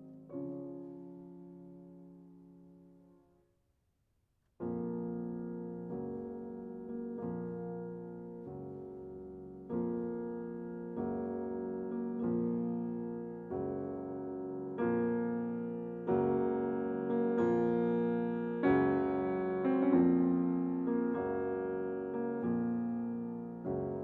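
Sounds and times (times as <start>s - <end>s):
slow piano chords: 0.0s - 3.2s, 4.6s - 24.0s.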